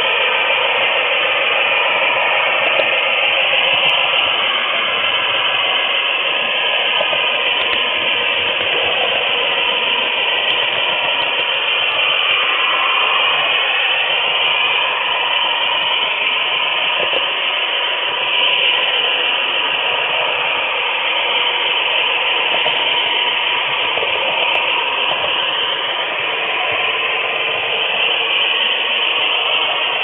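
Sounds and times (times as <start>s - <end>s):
faint sliding whines: 0.0s - 30.0s
model train wheels rumbling: 0.0s - 30.0s.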